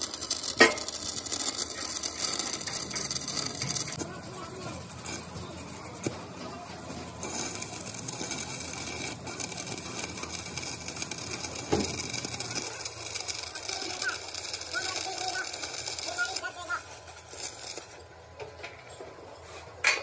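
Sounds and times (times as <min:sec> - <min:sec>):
welding arc crackling: 0:00.0 - 0:18.2.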